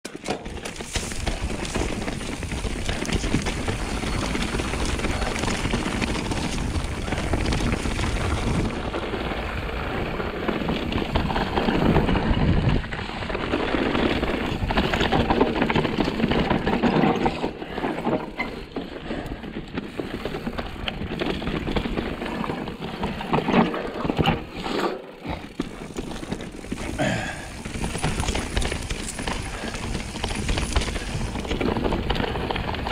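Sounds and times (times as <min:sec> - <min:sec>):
bike clattering and rattling: 0:00.0 - 0:32.9
tyres crunching over dirt and rock: 0:00.1 - 0:32.9.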